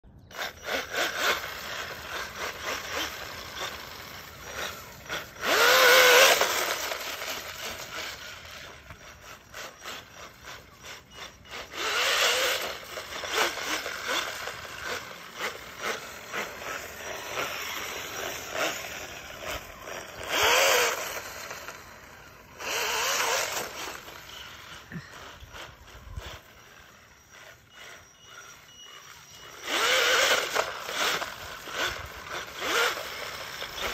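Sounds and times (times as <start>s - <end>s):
electric motor whining: 0.0s - 33.9s.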